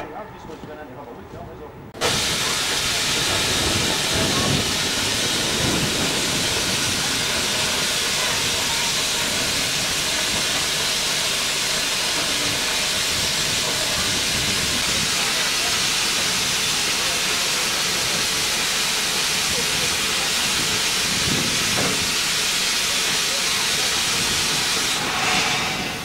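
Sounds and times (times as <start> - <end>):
steam hissing from locomotive: 2.0 - 26.0.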